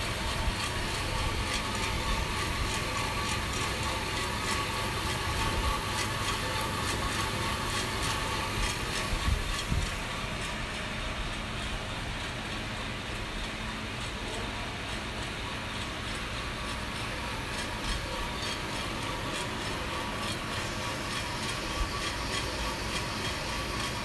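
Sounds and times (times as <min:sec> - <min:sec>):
coffee roaster drum whirring: 0:00.0 - 0:24.0.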